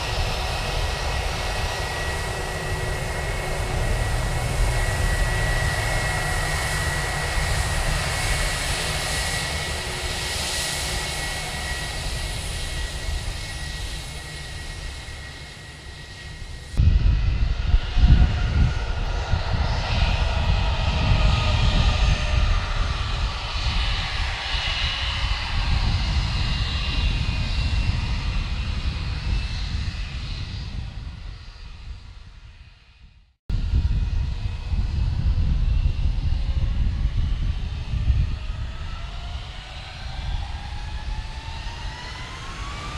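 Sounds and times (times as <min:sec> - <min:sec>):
jet engines whining and rumbling: 0:00.0 - 0:42.9.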